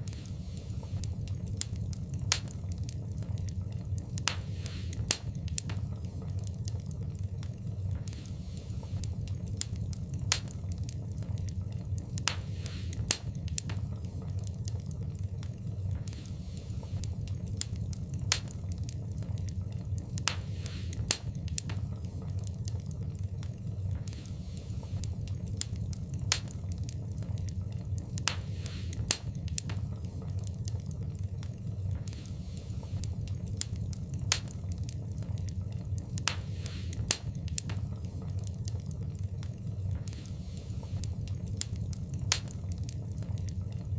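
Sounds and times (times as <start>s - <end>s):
low rumble of flames: 0.0s - 43.9s
soft hiss: 0.0s - 43.9s
wood fire crackling: 0.0s - 43.9s.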